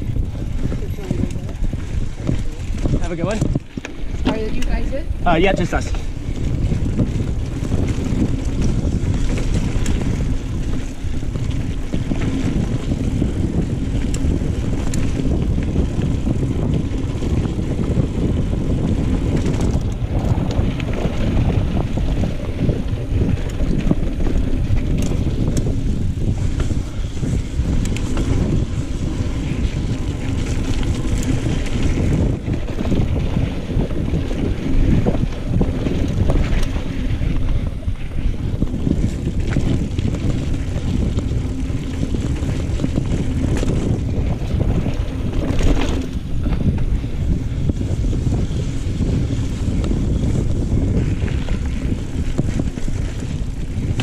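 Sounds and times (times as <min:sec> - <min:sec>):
bike clicks and rattles: 0:00.0 - 0:54.0
bike tyres rolling on dirt: 0:00.0 - 0:54.0
wind buffeting microphone: 0:00.0 - 0:54.0.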